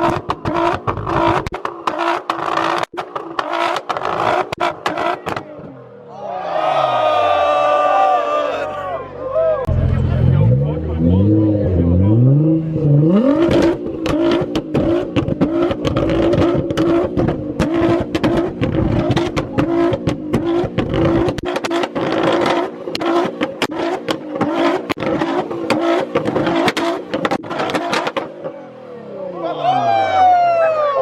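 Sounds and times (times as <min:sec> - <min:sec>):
car engine at high revs: 0:00.0 - 0:05.6, 0:09.7 - 0:29.1.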